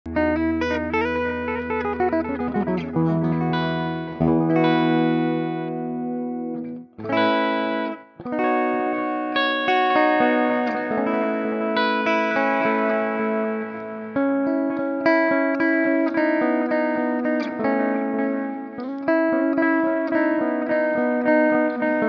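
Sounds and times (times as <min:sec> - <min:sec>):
electric guitar with reverb and delay: 0:00.1 - 0:22.0.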